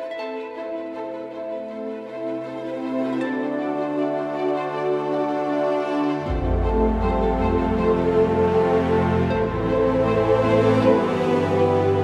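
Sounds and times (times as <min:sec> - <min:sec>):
slow calm background music: 0:00.0 - 0:12.0.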